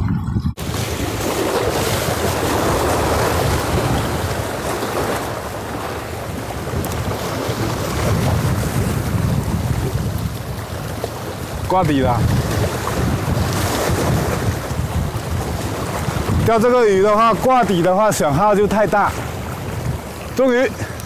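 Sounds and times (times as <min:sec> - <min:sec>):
wind buffeting microphone: 0:00.0 - 0:21.0
waves washing against a seawall: 0:00.6 - 0:21.0.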